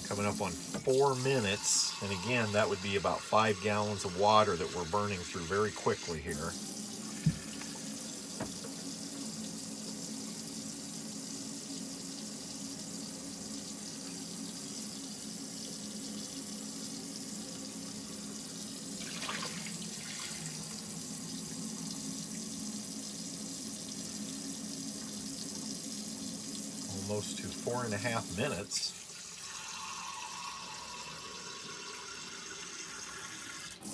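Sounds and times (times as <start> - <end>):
faucet running into sink: 0.0 - 33.9.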